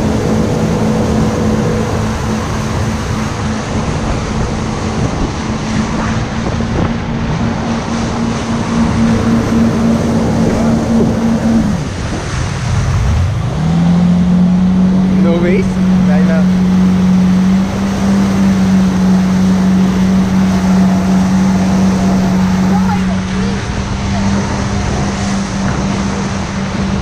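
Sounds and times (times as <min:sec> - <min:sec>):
water rushing: 0:00.0 - 0:27.0
watercraft engine running: 0:00.0 - 0:27.0
wind noise: 0:00.0 - 0:27.0.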